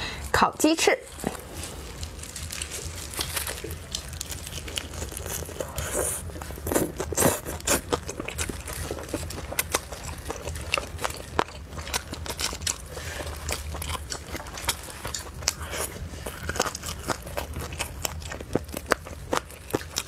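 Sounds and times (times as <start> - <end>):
plastic gloves crinkling: 0.2 - 20.0
chewing and biting: 1.0 - 20.0.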